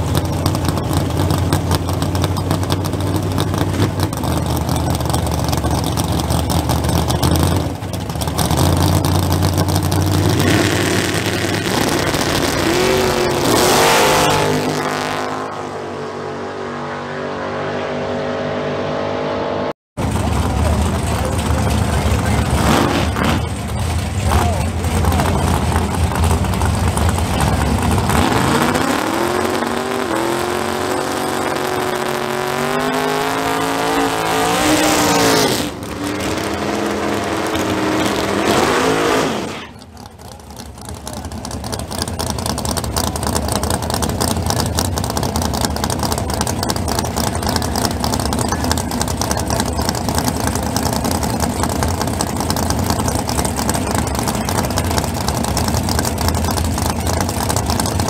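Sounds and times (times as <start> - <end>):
race engine rumble: 0.0 - 58.0
race car accelerating: 0.1 - 58.0.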